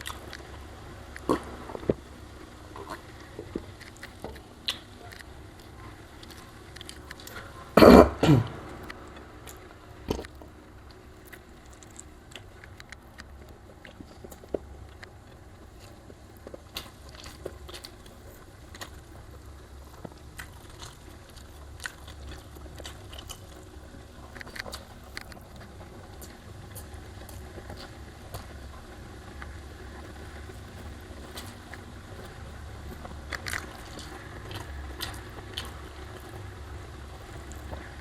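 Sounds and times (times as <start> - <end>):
chewing: 0.0 - 38.0.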